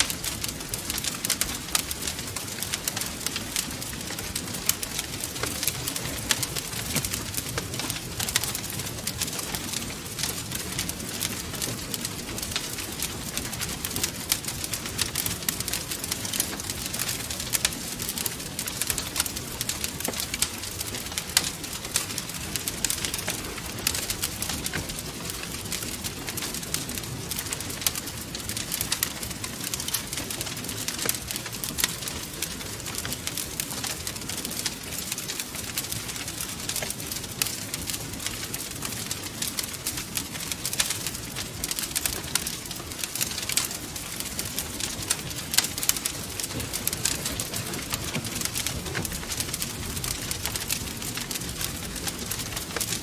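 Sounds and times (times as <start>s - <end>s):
low rumble of burning: 0.0s - 53.0s
wood fire crackling: 0.0s - 53.0s.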